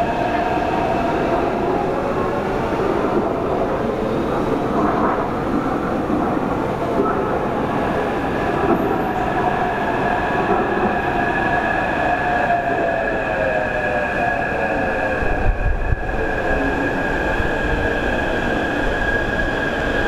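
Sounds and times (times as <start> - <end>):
metro train rumbling: 0.0 - 20.0.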